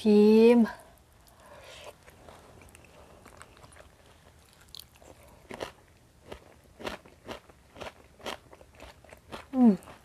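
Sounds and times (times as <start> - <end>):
crisp chewing crunches: 1.1 - 10.0.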